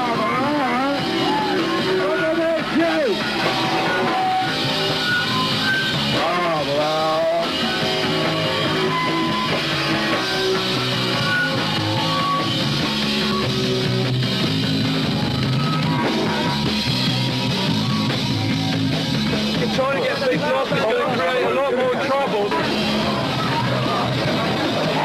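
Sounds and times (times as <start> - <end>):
punk rock band playing: 0.0 - 25.0.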